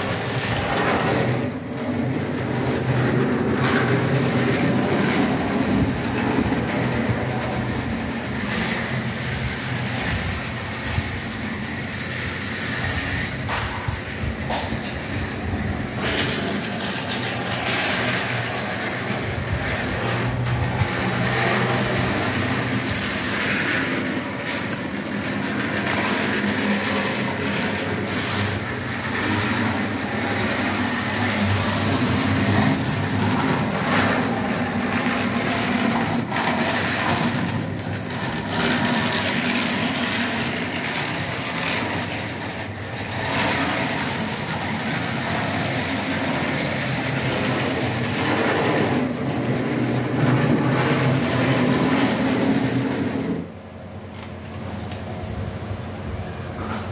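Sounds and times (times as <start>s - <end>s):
high whine: 0.0s - 53.9s
model trains rolling: 0.0s - 55.0s.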